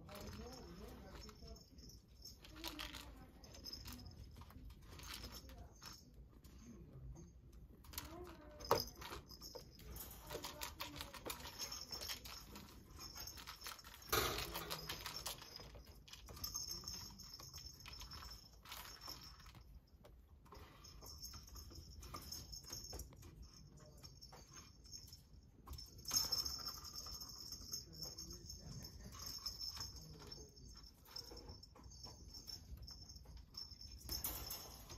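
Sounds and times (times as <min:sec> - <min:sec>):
ball rattling around plastic track: 0:00.0 - 0:06.6, 0:07.7 - 0:34.9.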